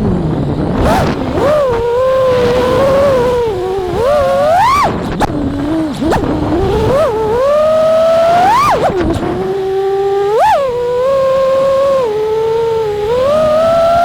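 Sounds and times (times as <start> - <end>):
quadcopter motors whining: 0.0 - 14.0
wind rushing on microphone: 0.0 - 14.0.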